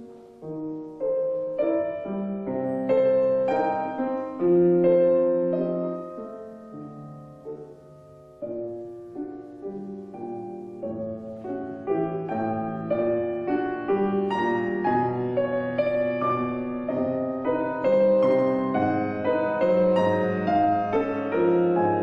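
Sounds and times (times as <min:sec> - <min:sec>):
solo piano chords: 0:00.0 - 0:22.0.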